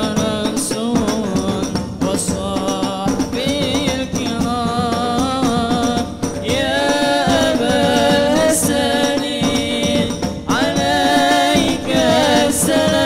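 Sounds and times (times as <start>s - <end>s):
frame drums and hand drums: 0.0s - 13.0s
man singing through pa: 0.0s - 13.0s.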